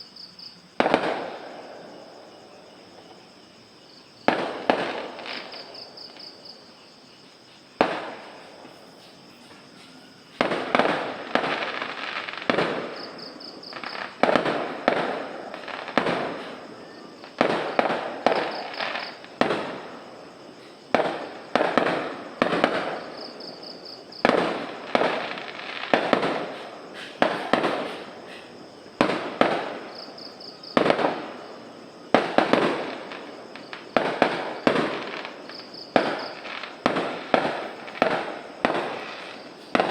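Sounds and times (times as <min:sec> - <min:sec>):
fireworks bangs and crackle: 0:00.0 - 0:06.8, 0:07.6 - 0:39.9.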